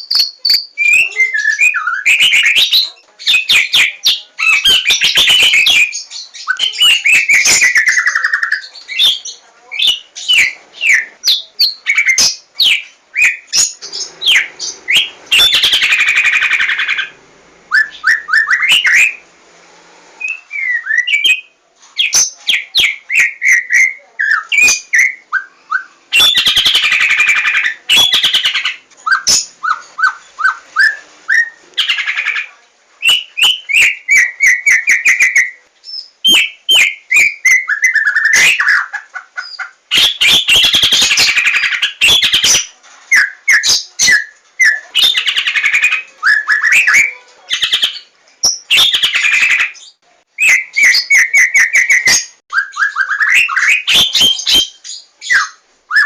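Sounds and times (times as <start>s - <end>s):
bird singing varied song: 0.0s - 19.3s, 20.2s - 56.0s.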